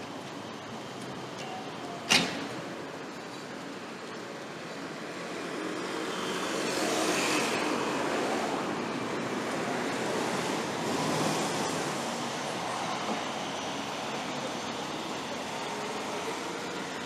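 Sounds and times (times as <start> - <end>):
road noise hiss: 0.0 - 17.0
vehicles passing: 0.0 - 17.0.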